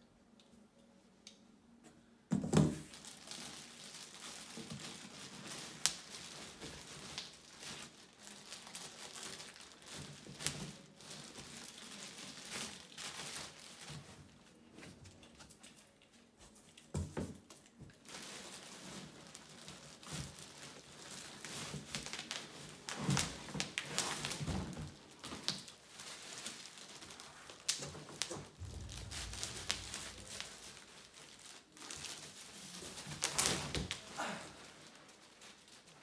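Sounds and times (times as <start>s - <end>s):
packaging rustling and crinkling: 2.6s - 36.0s.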